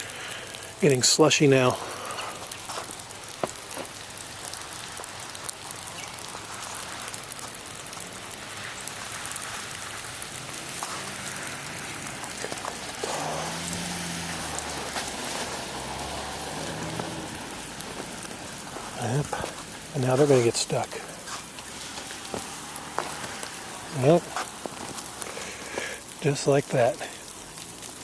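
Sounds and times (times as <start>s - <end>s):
water dripping and pattering: 0.0s - 28.0s
vehicle engine hum: 1.7s - 28.0s.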